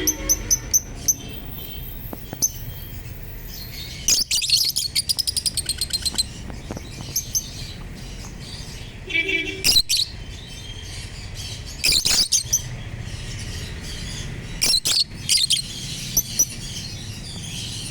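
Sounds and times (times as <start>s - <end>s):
lovebirds chirping: 0.0s - 17.9s.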